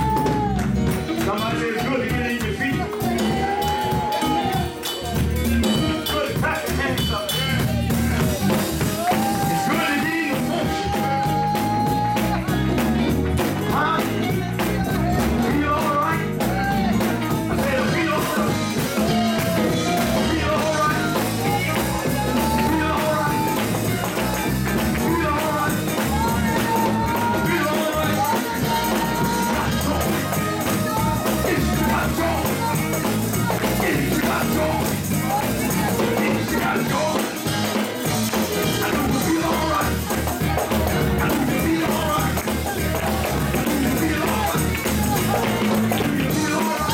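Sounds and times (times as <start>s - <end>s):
drums and percussion: 0.0s - 46.9s
up-tempo gospel music: 0.0s - 46.9s.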